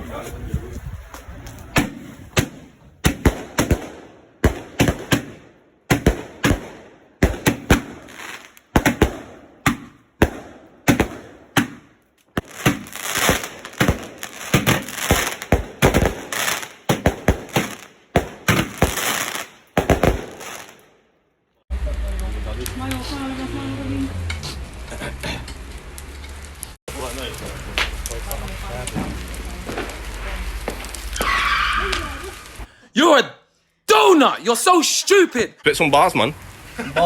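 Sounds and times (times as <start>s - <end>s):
fireworks bangs and crackling: 0.0s - 21.0s, 21.7s - 32.7s.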